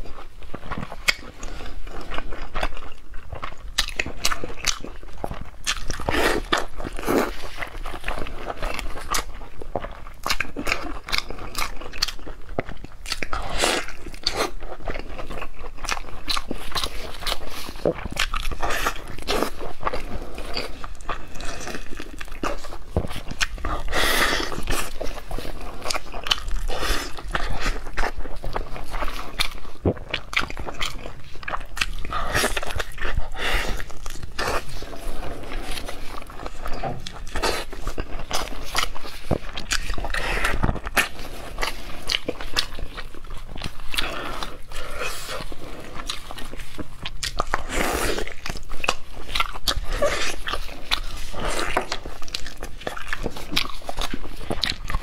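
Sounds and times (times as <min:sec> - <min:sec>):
person chewing meat: 0:00.0 - 0:55.0.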